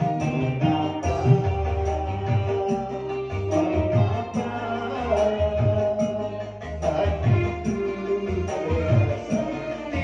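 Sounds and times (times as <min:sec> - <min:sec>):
live band with keyboard and drums: 0:00.0 - 0:10.0
person singing: 0:00.0 - 0:10.0.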